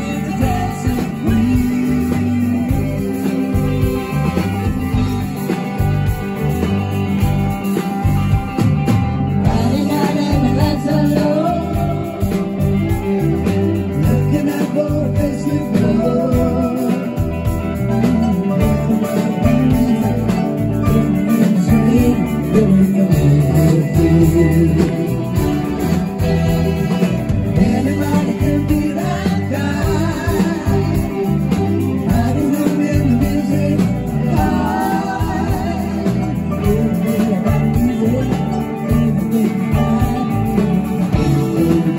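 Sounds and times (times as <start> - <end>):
lead vocal singing: 0.0 - 5.8, 9.4 - 41.9
electric guitars: 0.0 - 41.9
rock band playing: 0.0 - 41.9.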